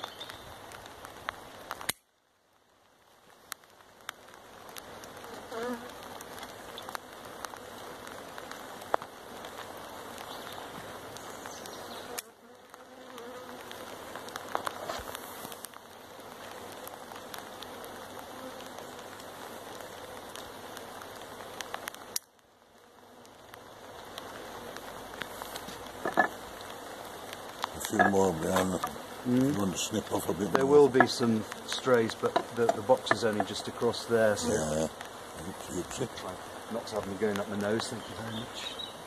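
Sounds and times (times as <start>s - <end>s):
bee swarm buzzing: 3.0s - 39.0s.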